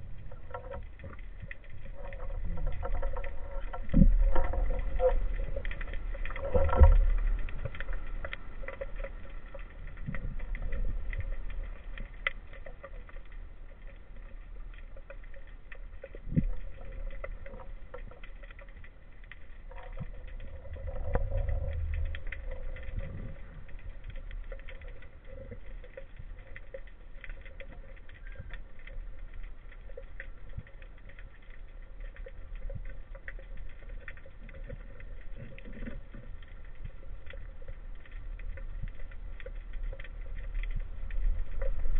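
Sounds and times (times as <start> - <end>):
low muffled underwater rumble: 0.0 - 41.9
small clicks and crackles: 0.0 - 41.9.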